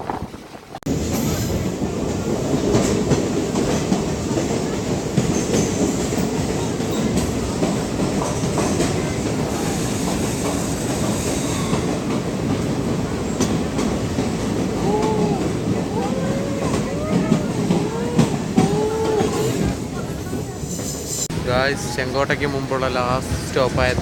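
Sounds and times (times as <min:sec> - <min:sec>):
train carriage rumble: 0:00.0 - 0:24.0
wheels clicking on rails: 0:00.0 - 0:24.0.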